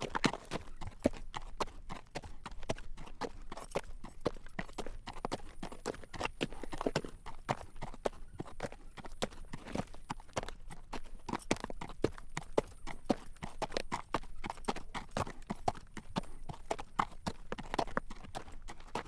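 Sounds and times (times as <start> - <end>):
horse hooves clip-clopping on road: 0.0 - 19.0.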